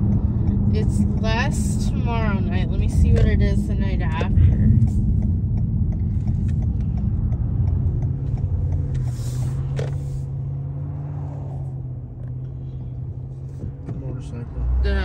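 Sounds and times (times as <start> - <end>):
car engine hum: 0.0 - 15.0
road rumble: 0.0 - 15.0.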